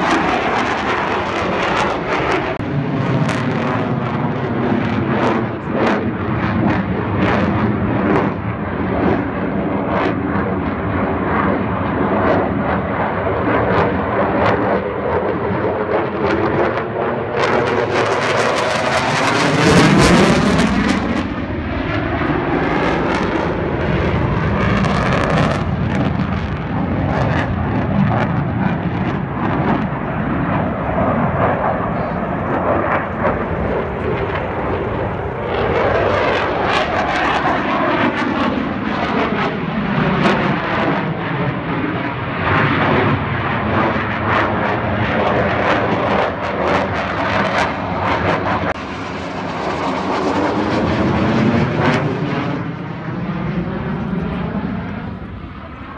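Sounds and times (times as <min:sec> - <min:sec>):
jet aircraft flying overhead: 0:00.0 - 0:55.9.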